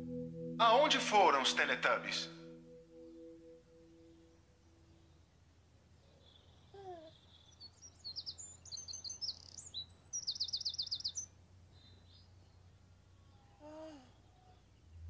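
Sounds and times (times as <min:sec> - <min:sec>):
birds chirping and trilling: 0:00.6 - 0:15.0.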